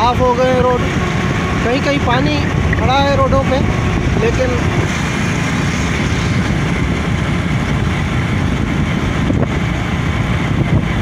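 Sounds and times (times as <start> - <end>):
vehicle engine and road noise: 0.0 - 11.0
wind buffeting microphone: 0.0 - 11.0.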